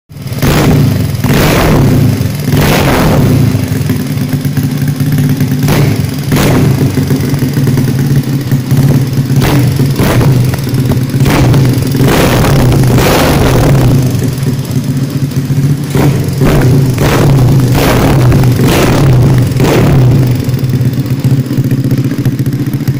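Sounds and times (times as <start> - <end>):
motorcycle engine idling and revving: 0.1 - 22.9.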